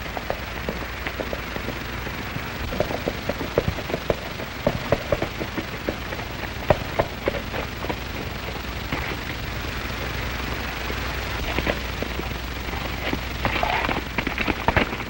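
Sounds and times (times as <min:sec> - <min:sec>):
galloping horse hoofbeats: 0:00.0 - 0:15.0
old film soundtrack hiss: 0:00.0 - 0:15.0.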